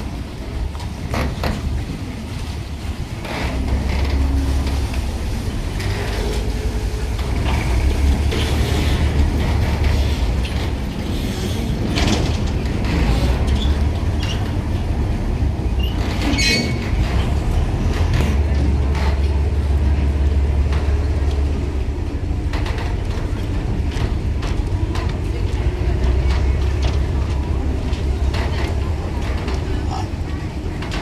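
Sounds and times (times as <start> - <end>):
vehicle rumble: 0.0 - 31.0
creaks and knocks of vehicle body: 0.7 - 2.0, 3.2 - 29.9.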